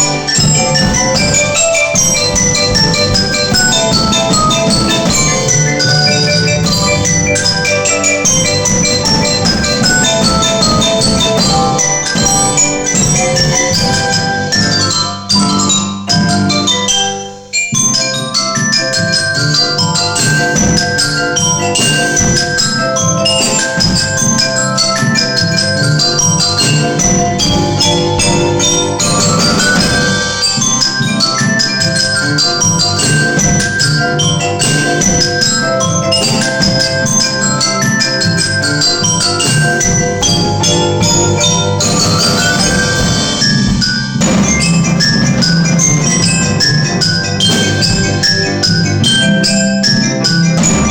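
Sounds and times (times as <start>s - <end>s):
bell-like melodic music: 0.0s - 50.9s.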